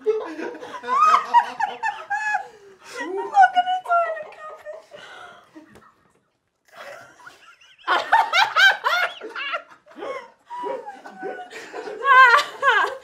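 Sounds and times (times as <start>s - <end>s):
women laughing: 0.0s - 6.0s, 6.7s - 13.0s.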